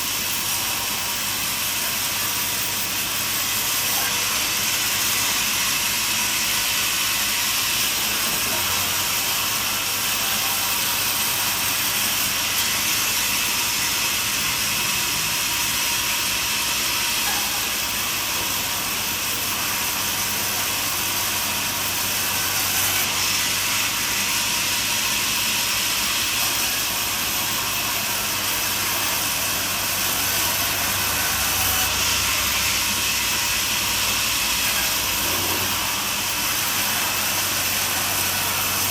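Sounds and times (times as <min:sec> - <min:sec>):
band sawmill cutting: 0:00.0 - 0:38.9.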